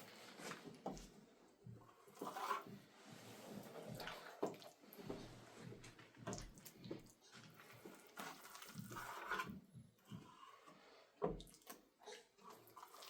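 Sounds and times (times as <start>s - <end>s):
water splashing and scraping: 2.1s - 13.0s.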